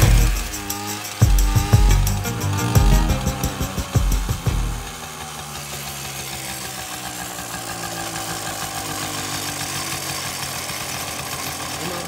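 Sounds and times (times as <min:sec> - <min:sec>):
moped engine idling: 0:00.0 - 0:12.0.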